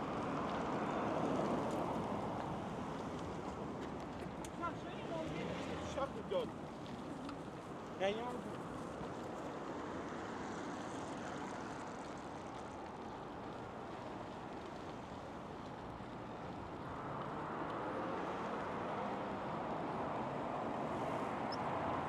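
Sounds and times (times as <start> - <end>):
city street traffic hum: 0.0 - 22.0.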